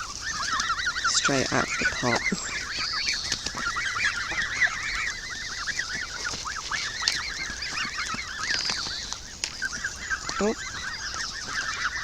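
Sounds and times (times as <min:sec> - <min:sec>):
waterfowl flock calling: 0:00.0 - 0:12.0.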